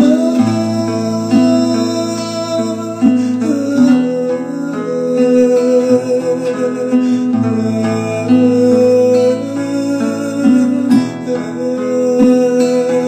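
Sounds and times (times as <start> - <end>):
instrumental gospel music: 0.0 - 13.0.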